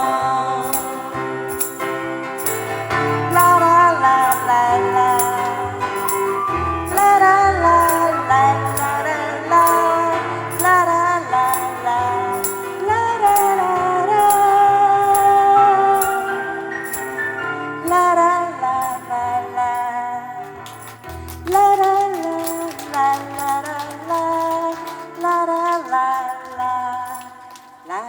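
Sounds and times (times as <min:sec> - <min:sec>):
live band instrumental music: 0:00.0 - 0:25.2.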